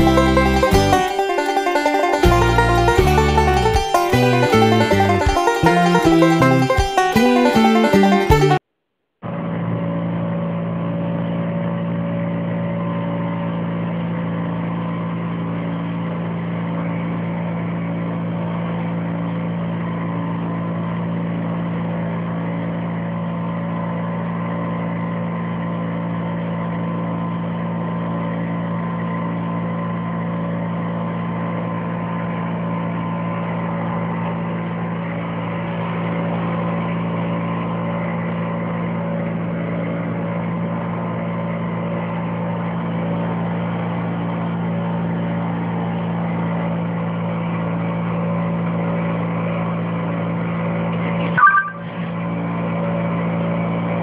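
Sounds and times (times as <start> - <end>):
engine humming steadily: 0.0 - 8.6, 9.3 - 54.0.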